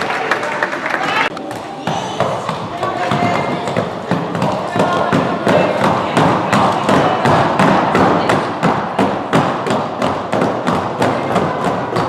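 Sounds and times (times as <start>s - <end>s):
steady background din: 0.8s - 12.0s.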